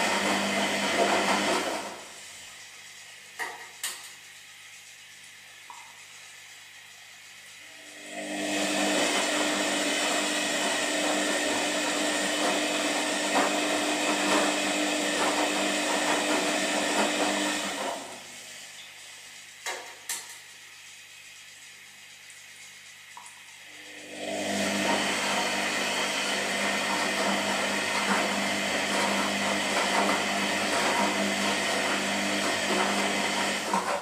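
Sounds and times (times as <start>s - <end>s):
washing machine motor hum: 0.0s - 34.0s
washing machine rushing water: 0.0s - 34.0s.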